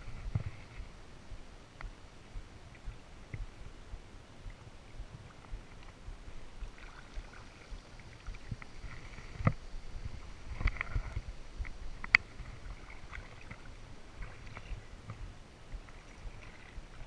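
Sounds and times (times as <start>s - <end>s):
kayak paddle dipping and dripping: 1.8s - 17.0s.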